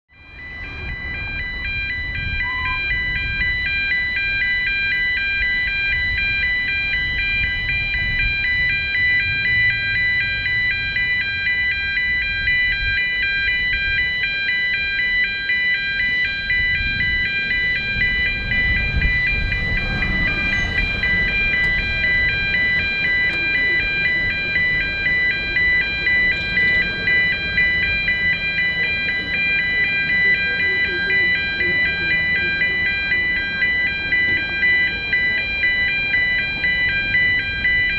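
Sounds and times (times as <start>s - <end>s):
crossing alarm pulsing tones: 0.1s - 37.9s.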